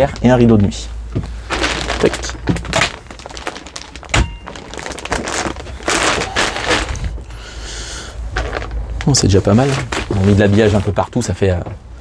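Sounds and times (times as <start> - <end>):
rustling and shuffling movement: 0.0 - 12.0.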